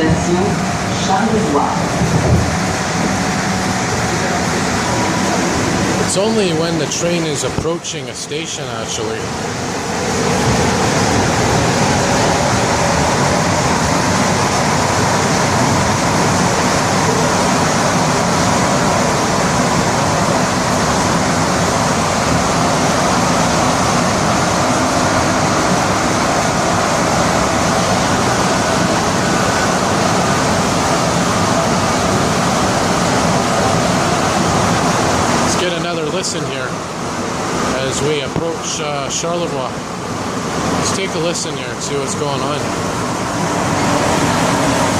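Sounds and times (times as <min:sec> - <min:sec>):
train rumbling in tunnel: 0:00.0 - 0:44.9.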